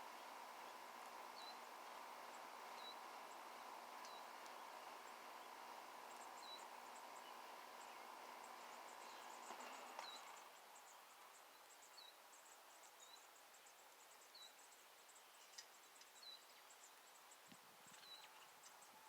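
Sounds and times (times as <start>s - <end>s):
faint high-pitched ticking: 0.0s - 19.0s
faint hiss: 0.0s - 19.0s.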